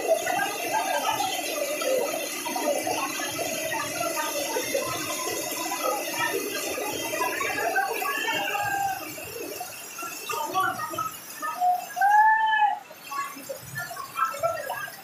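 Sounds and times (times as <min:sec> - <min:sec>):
crowd shouting and shrieking: 0:00.0 - 0:13.6.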